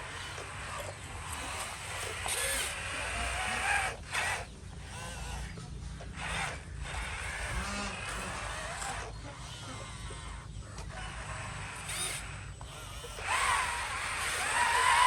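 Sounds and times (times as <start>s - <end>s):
small electric gear motors whirring: 0.0s - 15.0s.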